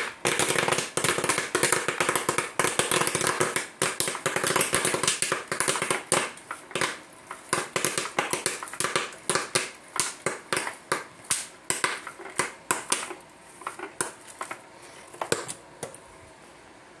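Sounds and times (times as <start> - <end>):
popcorn popping: 0.0 - 16.1.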